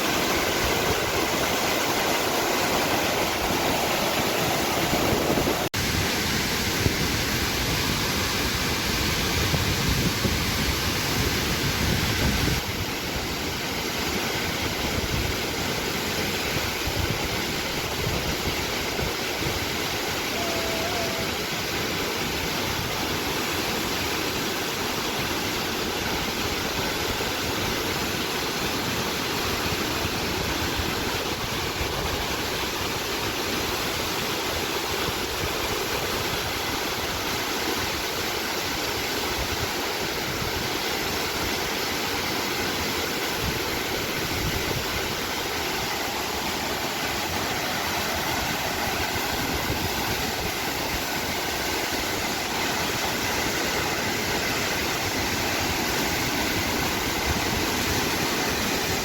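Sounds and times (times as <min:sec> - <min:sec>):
rushing mountain water: 0:00.0 - 0:59.0.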